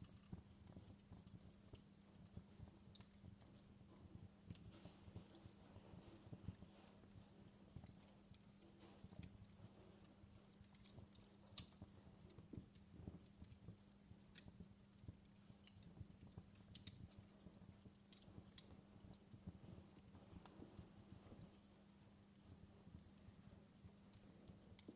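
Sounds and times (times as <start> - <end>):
low steady hum: 0.0 - 24.9
wood fire crackling: 0.0 - 24.9.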